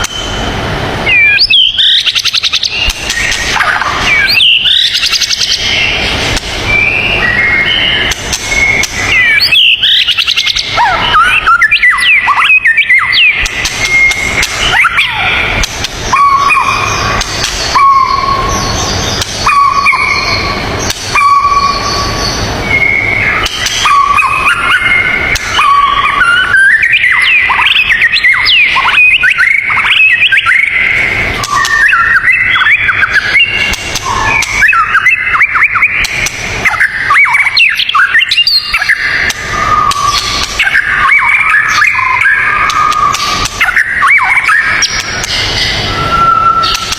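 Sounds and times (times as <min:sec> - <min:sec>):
songbird whistling: 0:01.0 - 0:06.0, 0:06.6 - 0:46.9.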